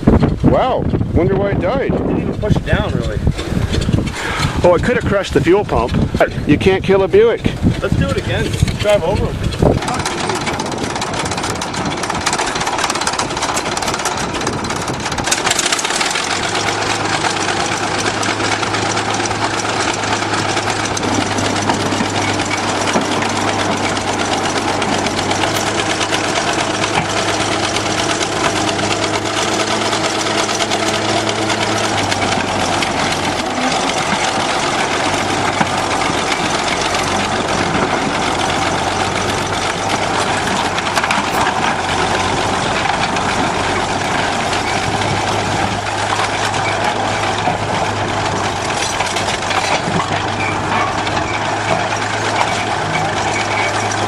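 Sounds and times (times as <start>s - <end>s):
bulldozer diesel engine clattering: 0.0s - 54.0s.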